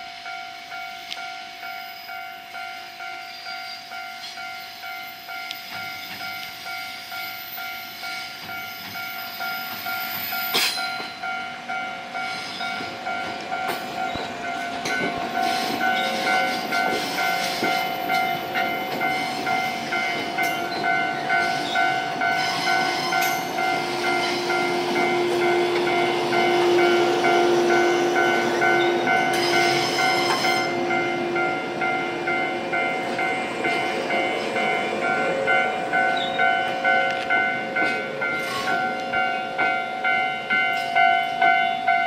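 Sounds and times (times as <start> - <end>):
level crossing bell ringing: 0.3 - 42.0
train rumble: 2.4 - 42.0.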